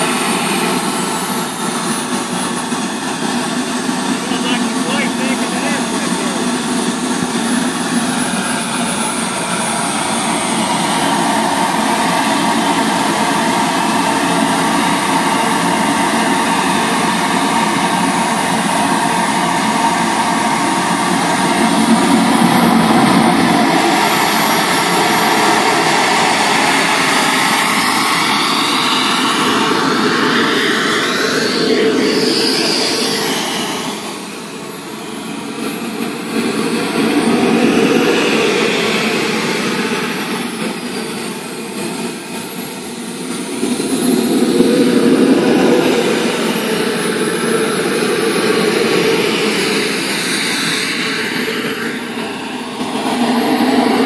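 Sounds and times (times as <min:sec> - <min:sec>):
model jet turbine whine: 0:00.0 - 0:54.0.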